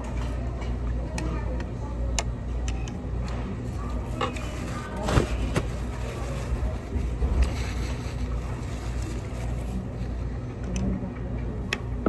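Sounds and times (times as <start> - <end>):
restaurant low rumble: 0.0 - 12.0.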